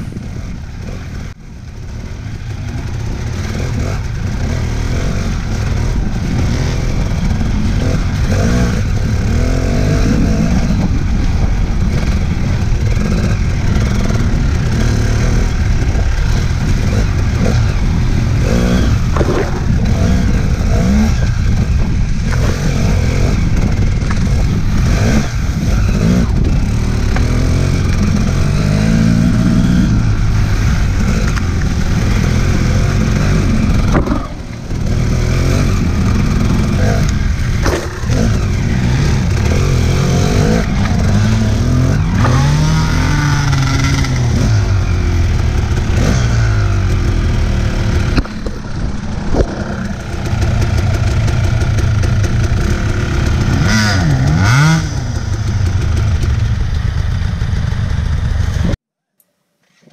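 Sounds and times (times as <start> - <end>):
dirt bike engine revving: 0.0 - 58.8.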